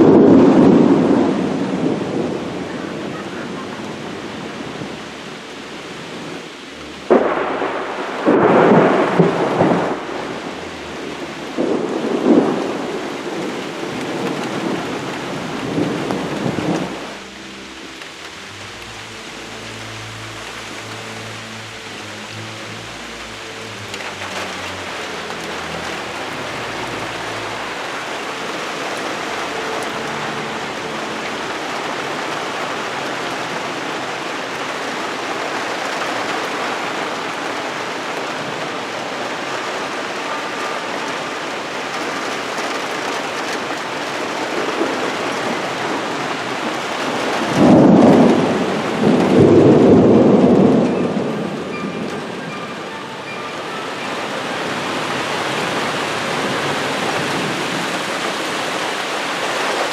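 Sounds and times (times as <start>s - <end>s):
loud thunderclap rumbling: 0.0s - 5.0s, 5.9s - 18.7s, 19.4s - 59.9s
heavy rain falling: 0.0s - 59.9s.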